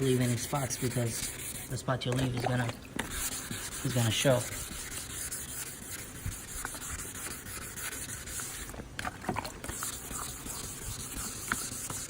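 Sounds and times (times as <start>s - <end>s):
wet sandpaper rubbing plastic: 0.0s - 12.0s.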